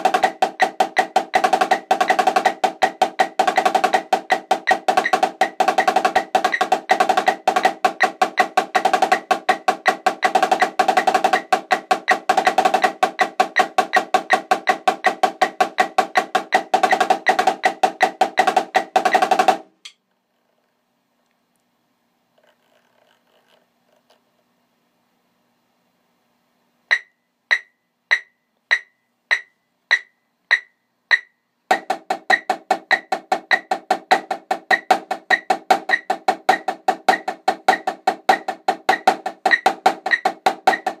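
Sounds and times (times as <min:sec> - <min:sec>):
snare drum played with sticks: 0:00.0 - 0:20.0, 0:26.9 - 0:41.0.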